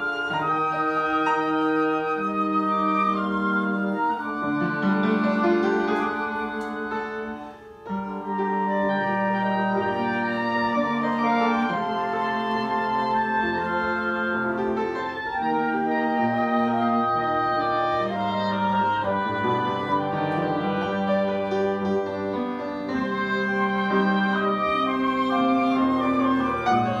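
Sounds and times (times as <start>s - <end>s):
flute and wind instruments: 0.0s - 27.0s
upright piano chords: 0.0s - 27.0s.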